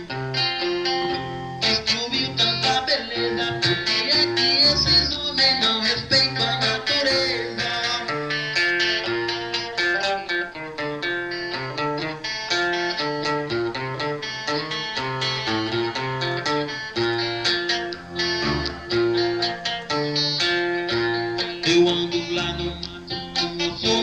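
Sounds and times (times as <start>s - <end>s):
plucked guitar melody: 0.0s - 24.0s
bass line: 0.9s - 9.5s, 13.3s - 24.0s.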